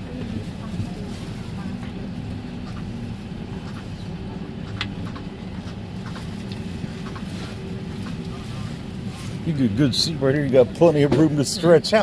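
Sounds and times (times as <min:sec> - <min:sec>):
aircraft cabin air system hum: 0:00.0 - 0:12.0.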